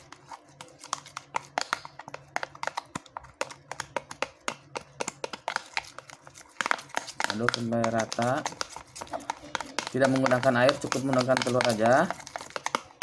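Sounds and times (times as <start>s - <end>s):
spoon knocking plastic container: 0.9s - 13.0s.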